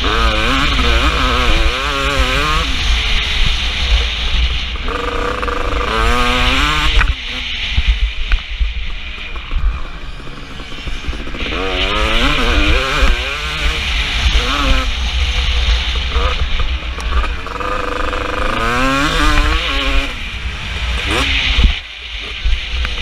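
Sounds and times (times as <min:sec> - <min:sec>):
motocross bike engine revving: 0:00.0 - 0:08.3, 0:09.0 - 0:23.0.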